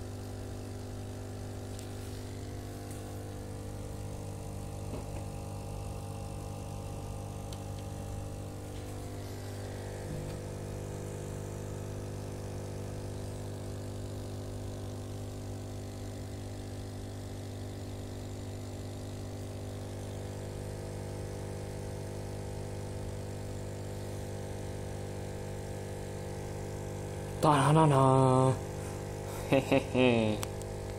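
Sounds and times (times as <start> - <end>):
aquarium air pump buzzing: 0.0 - 30.9.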